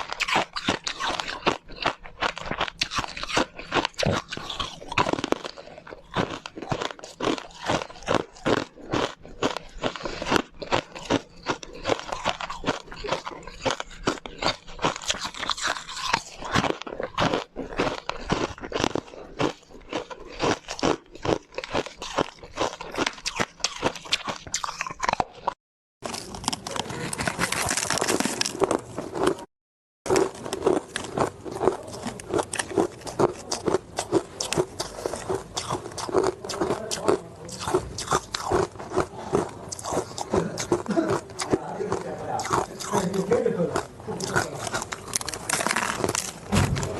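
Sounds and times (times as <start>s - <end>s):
ice being chewed: 0.0s - 29.5s, 30.1s - 46.9s.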